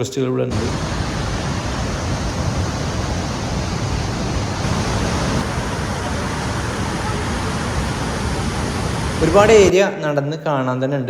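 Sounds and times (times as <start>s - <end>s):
waterfall roaring: 0.5s - 9.7s.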